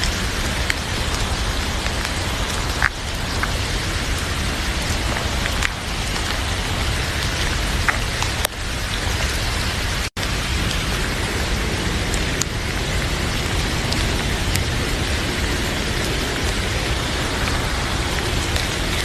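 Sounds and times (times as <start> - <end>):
heavy rain falling: 0.0 - 19.0
wood fire crackling: 0.0 - 19.0.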